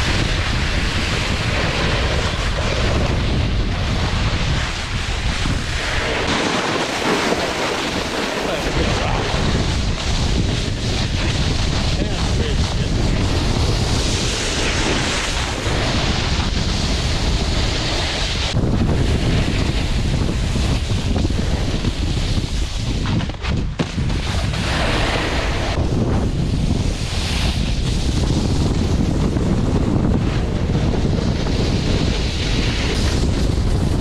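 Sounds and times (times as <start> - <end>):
snowboard hissing on snow: 0.0 - 34.0
wind buffeting microphone: 0.0 - 34.0.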